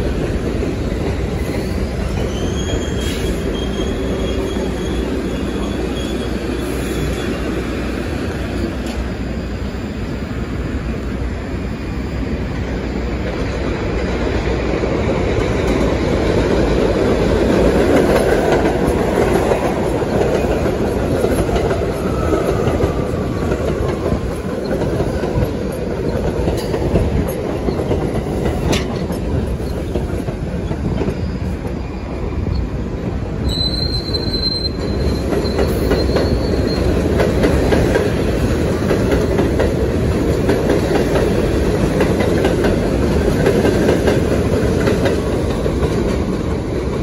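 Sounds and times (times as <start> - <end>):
subway train rumbling on elevated track: 0.0 - 47.0.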